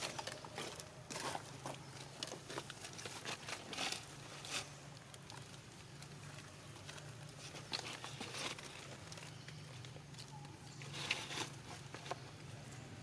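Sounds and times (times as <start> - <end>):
light rustling and crackling: 0.0 - 12.8.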